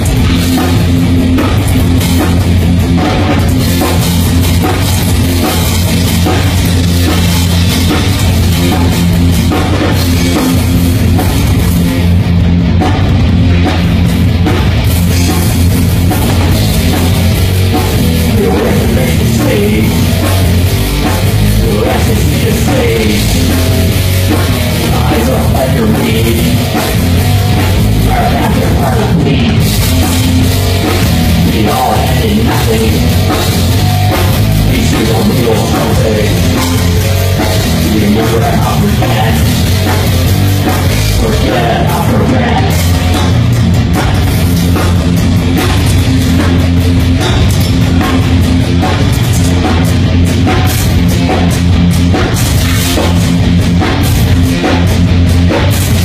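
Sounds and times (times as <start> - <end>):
metal band playing live: 0.0 - 56.0.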